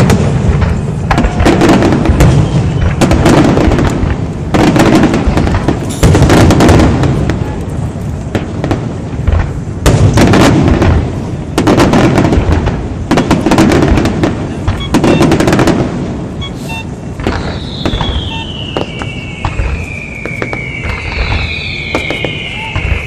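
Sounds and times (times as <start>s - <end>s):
fireworks booming and cracking: 0.0s - 23.0s.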